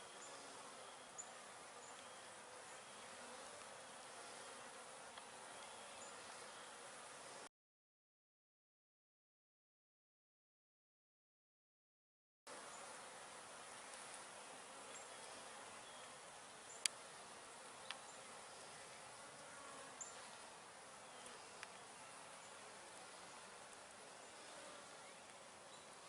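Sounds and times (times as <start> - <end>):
bees buzzing: 0.0 - 7.4, 12.5 - 26.0.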